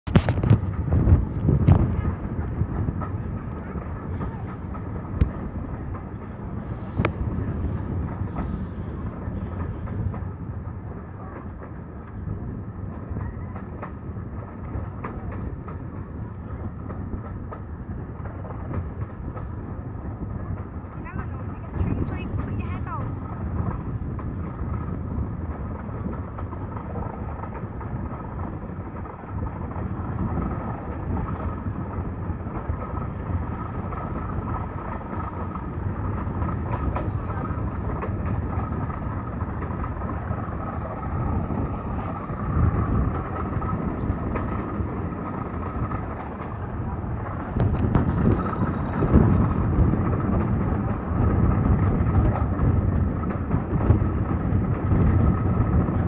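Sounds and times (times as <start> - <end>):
wind buffeting microphone: 0.0 - 56.0
coaches rumbling on track: 0.1 - 56.0.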